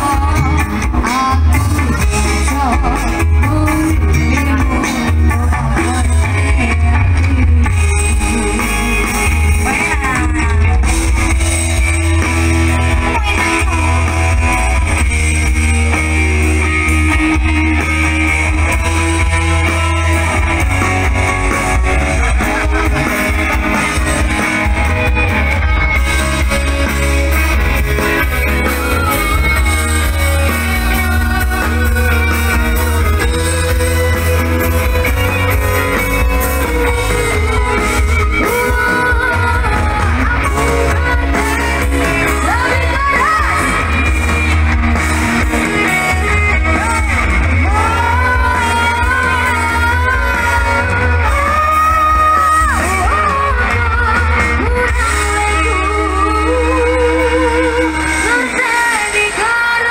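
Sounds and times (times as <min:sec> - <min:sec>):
loud rock music: 0:00.0 - 0:59.9.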